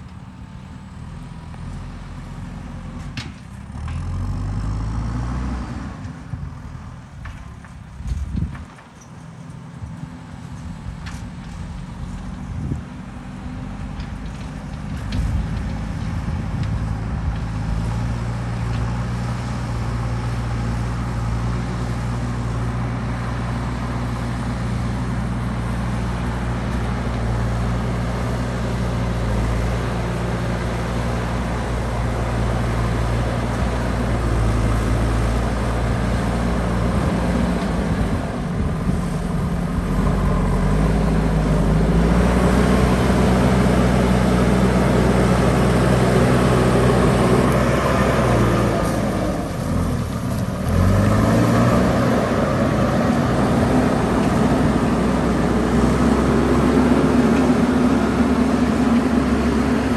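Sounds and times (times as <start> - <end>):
backhoe diesel engine revving: 0.0 - 7.1, 11.6 - 59.9.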